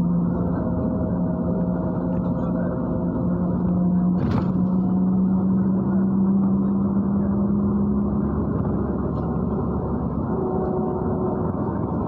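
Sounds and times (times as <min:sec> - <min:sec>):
bus diesel engine running: 0:00.0 - 0:12.0
road rumble: 0:00.0 - 0:12.0.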